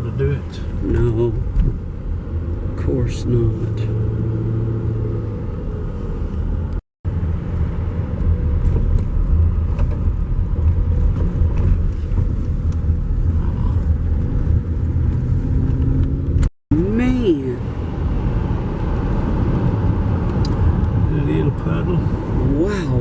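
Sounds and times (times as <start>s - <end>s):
car interior engine and road rumble: 0.0s - 23.0s.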